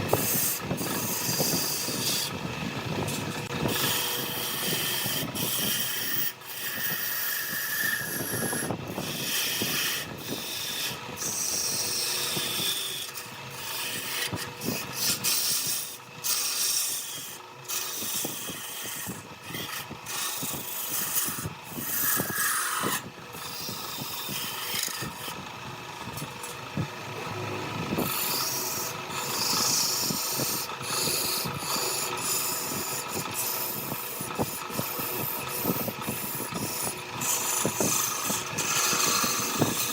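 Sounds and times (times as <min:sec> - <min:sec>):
lathe tool cutting wood: 0:00.0 - 0:39.9.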